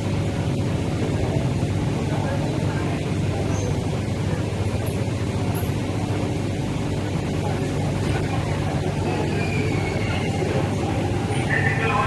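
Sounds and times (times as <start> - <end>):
standing train hum and hiss: 0.0 - 12.0
ventilation noise: 0.0 - 12.0.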